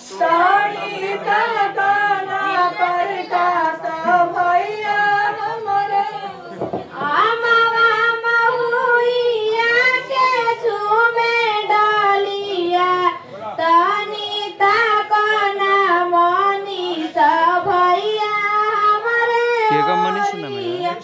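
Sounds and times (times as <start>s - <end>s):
person singing unaccompanied: 0.0s - 21.0s.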